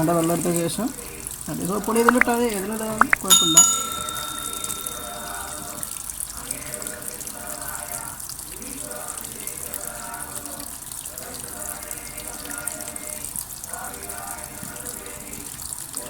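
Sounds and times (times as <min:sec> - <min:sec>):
tap water running into drum: 0:00.0 - 0:16.0.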